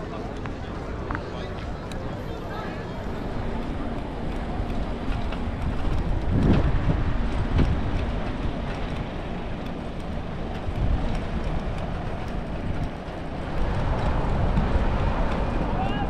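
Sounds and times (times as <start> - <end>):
bicycle rattling over cobblestones: 0.0 - 16.0.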